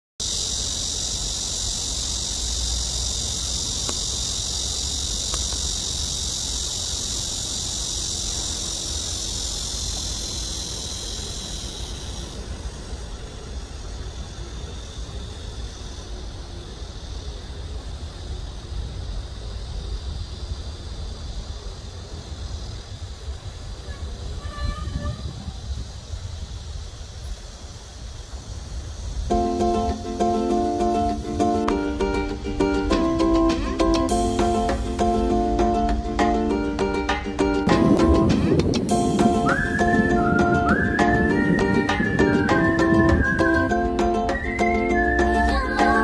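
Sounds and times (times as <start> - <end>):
insects buzzing: 0.2 - 46.0.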